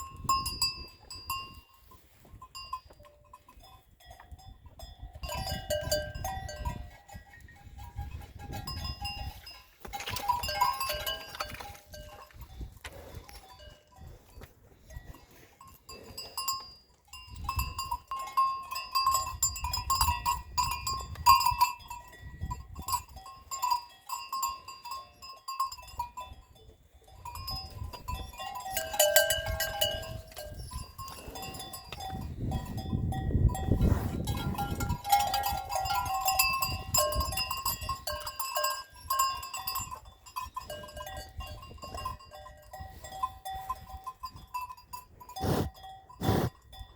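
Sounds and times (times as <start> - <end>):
livestock bells clinking: 0.0 - 46.9.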